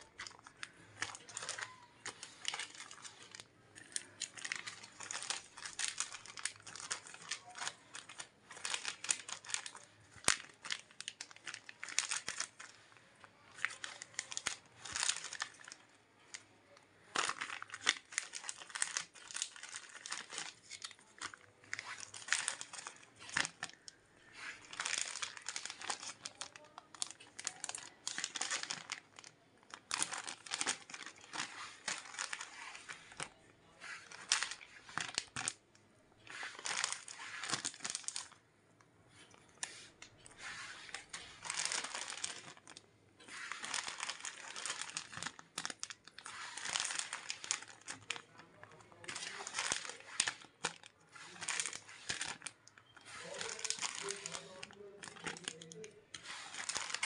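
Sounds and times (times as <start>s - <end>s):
plastic bags crinkling: 0.0s - 38.4s, 39.1s - 57.0s.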